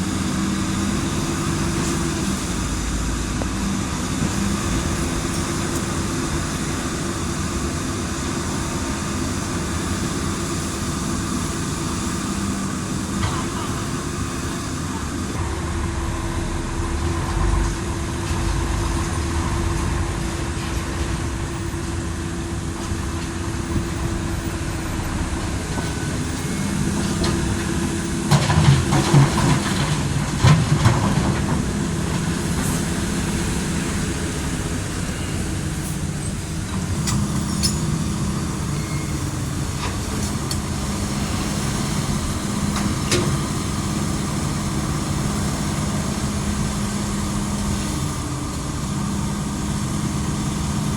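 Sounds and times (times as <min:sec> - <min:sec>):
diesel truck engine running: 0:00.0 - 0:50.9
engine knocks and clatter: 0:00.0 - 0:50.9.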